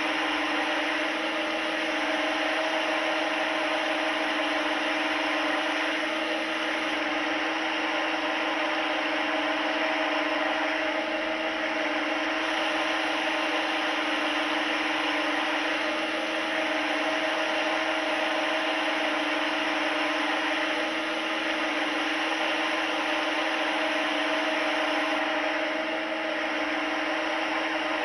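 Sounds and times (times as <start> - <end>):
mechanical whirring hum: 0.0 - 28.0.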